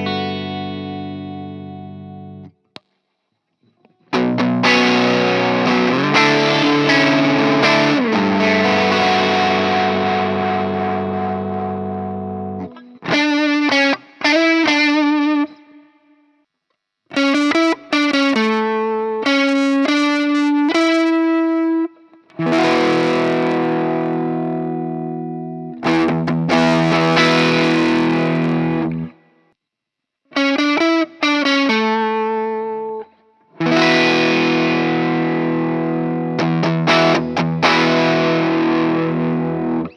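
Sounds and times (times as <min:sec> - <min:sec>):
distorted electric guitar: 0:00.0 - 0:02.6, 0:03.9 - 0:16.0, 0:17.1 - 0:29.5, 0:30.3 - 0:39.9.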